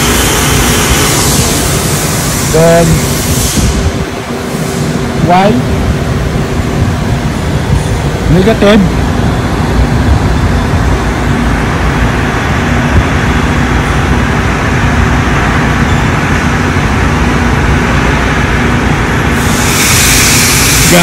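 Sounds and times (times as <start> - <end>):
machinery hum and rush: 0.0 - 21.0.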